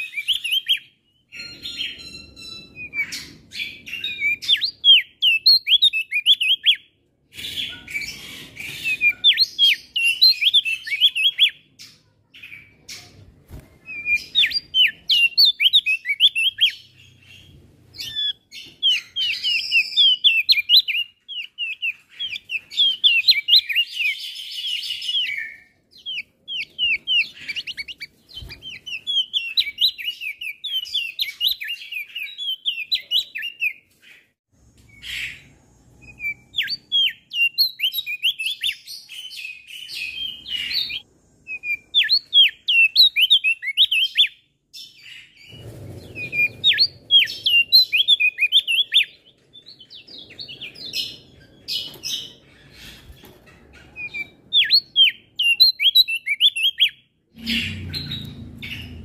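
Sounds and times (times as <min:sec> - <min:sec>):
bird twittering song: 0:00.0 - 0:59.0.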